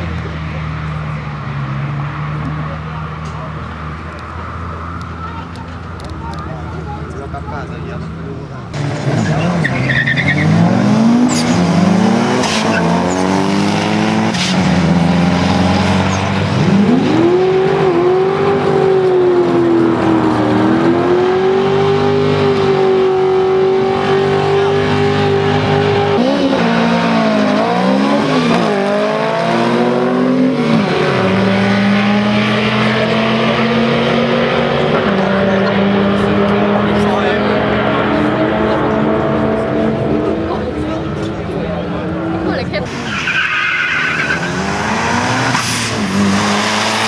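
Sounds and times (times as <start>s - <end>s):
race car engines accelerating: 0.0s - 47.0s.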